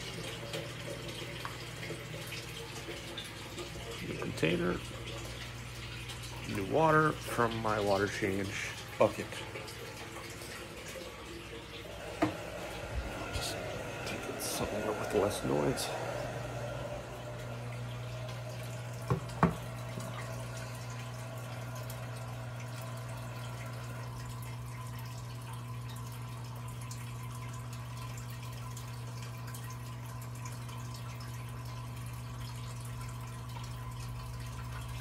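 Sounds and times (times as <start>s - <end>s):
aquarium filter humming: 0.0s - 35.0s
water trickling: 0.0s - 35.0s.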